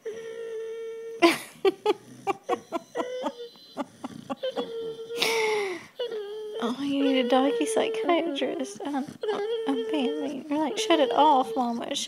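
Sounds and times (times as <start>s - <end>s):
dog whining: 0.0s - 12.0s.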